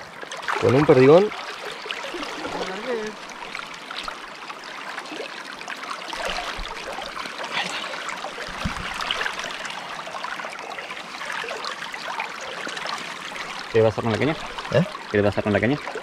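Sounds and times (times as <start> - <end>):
river water splashing: 0.0 - 16.0.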